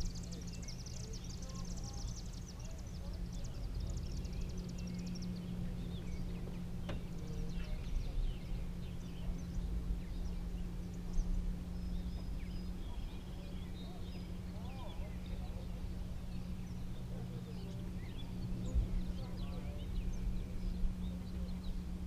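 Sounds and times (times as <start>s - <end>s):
bird chirps: 0.0s - 22.0s
steady low hum: 0.0s - 22.0s.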